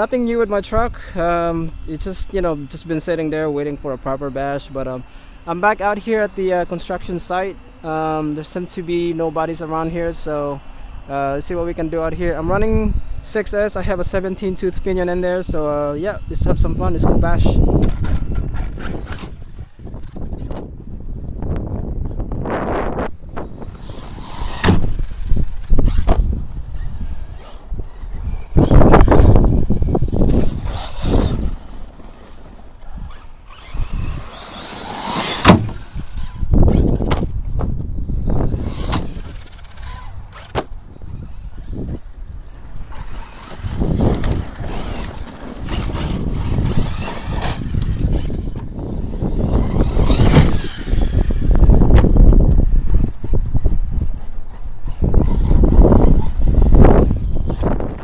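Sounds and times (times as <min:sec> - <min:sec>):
electric motor whining: 0:00.0 - 0:58.0
tyre and chassis noise: 0:00.0 - 0:58.0
wind buffeting on microphone: 0:10.9 - 0:58.0.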